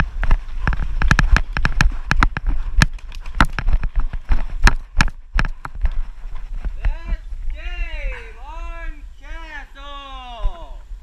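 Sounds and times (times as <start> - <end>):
running footsteps on grass: 0.0 - 11.0.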